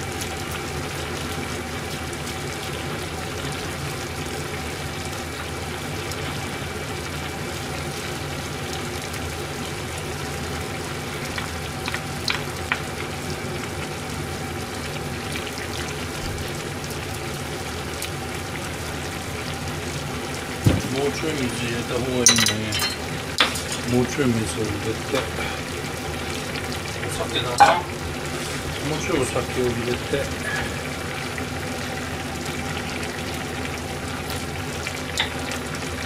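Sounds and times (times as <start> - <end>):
broth simmering in a pot: 0.0 - 36.0.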